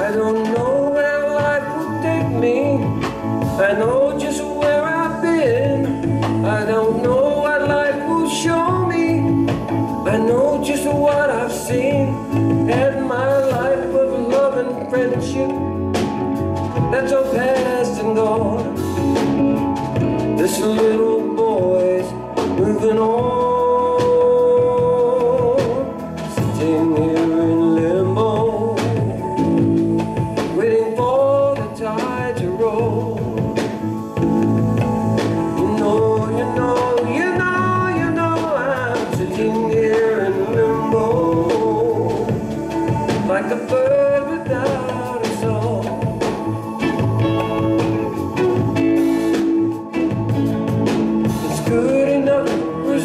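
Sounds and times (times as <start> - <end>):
gliding lead melody: 0.0 - 53.0
live band playing slow song: 0.0 - 53.0.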